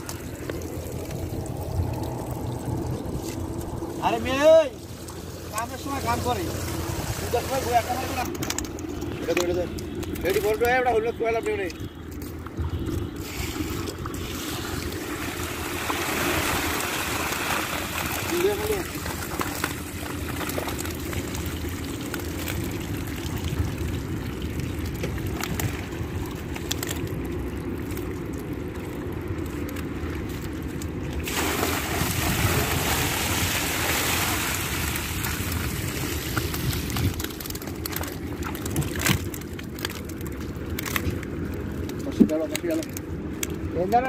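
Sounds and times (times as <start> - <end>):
muddy water sloshing and dripping: 0.0 - 44.0
steady low rumble: 0.0 - 44.0
mud squelching underfoot: 5.0 - 32.9, 34.3 - 43.8.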